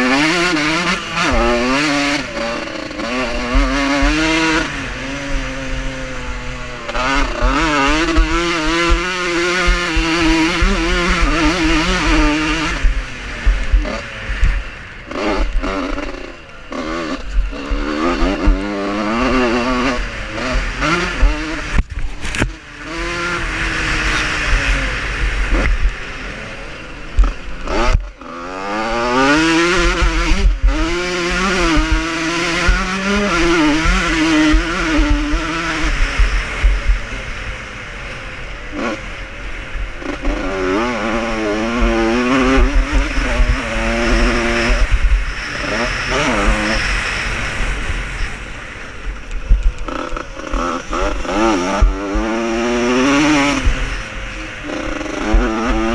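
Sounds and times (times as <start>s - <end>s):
motocross motorcycles racing: 0.0s - 55.9s.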